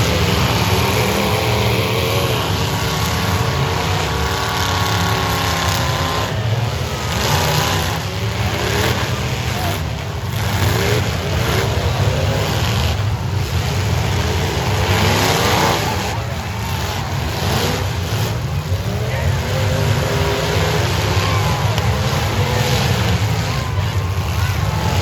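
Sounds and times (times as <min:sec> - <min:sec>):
car engines revving hard: 0:00.0 - 0:25.0
low engine rumble: 0:00.0 - 0:25.0.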